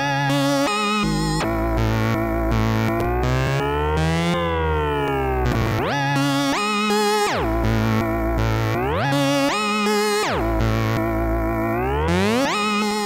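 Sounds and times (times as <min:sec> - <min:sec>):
synthesizer notes with pitch glides: 0:00.0 - 0:13.0.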